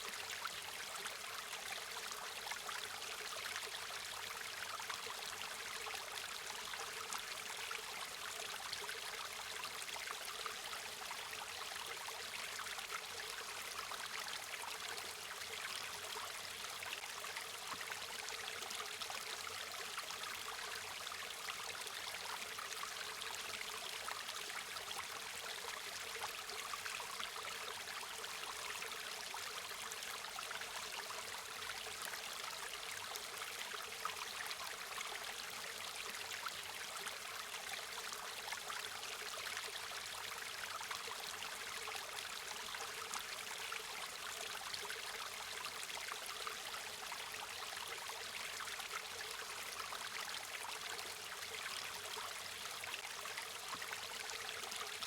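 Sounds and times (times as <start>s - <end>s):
stream flowing and babbling: 0.0s - 55.0s.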